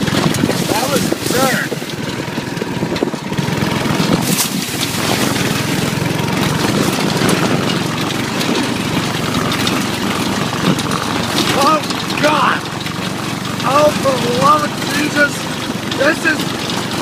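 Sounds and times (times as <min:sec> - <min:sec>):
go-kart engine running: 0:00.0 - 0:17.0.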